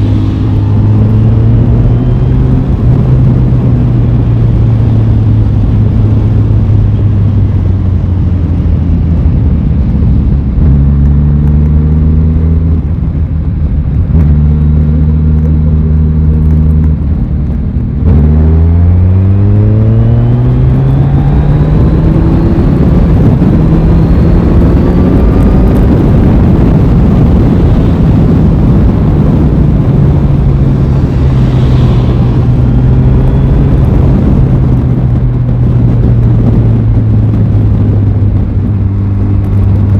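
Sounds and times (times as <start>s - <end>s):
motorcycle engine revving: 0.0s - 13.3s, 13.9s - 39.9s
rushing wind noise: 0.0s - 39.9s.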